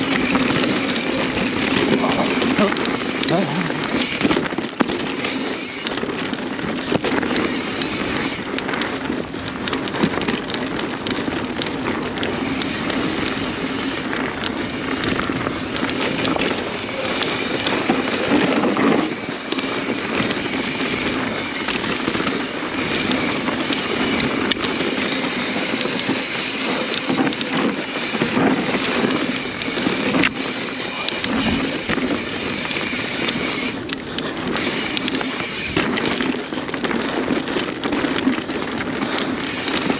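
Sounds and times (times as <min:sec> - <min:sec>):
bike clattering over rough ground: 0:00.0 - 0:39.9
tyre and wind rush: 0:00.0 - 0:39.9.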